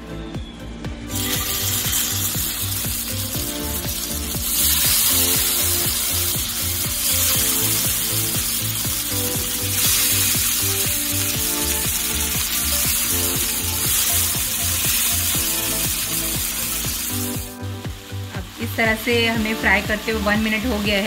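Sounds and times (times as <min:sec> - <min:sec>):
background music with steady beat: 0:00.0 - 0:21.0
fish sizzling in hot oil: 0:01.1 - 0:21.0.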